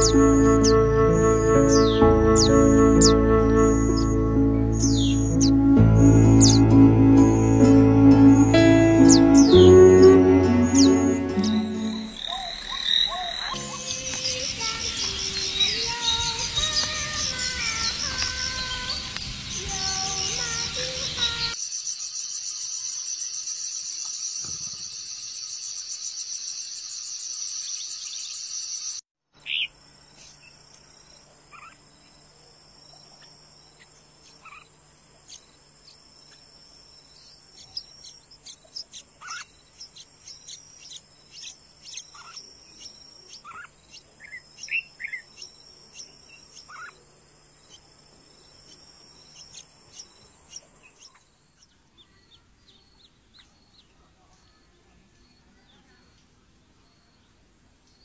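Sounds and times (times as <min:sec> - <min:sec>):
nestlings chirping: 0:00.0 - 0:22.9, 0:23.9 - 0:32.2, 0:32.8 - 0:54.7
pulsing insect trill: 0:00.0 - 0:29.0, 0:29.6 - 0:51.6
high insect whine: 0:00.0 - 0:51.5.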